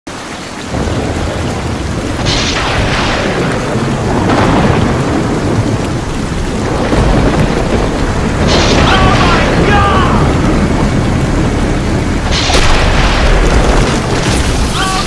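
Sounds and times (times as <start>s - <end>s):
steady rain: 0.1s - 15.0s
loud thunderclaps: 0.6s - 15.0s
low rumble of thunder: 0.7s - 14.8s.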